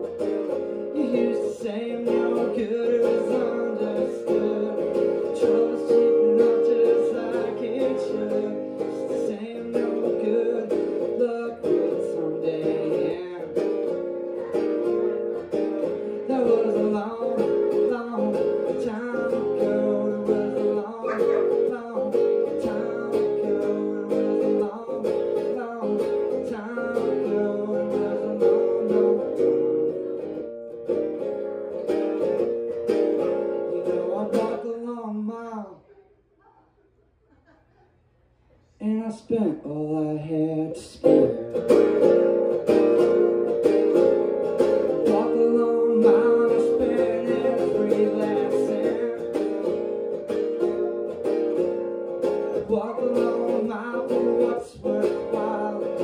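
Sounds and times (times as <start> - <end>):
man singing: 0.0 - 30.5, 31.2 - 36.0, 38.8 - 56.0
acoustic guitar strumming: 0.0 - 35.6, 38.8 - 56.0.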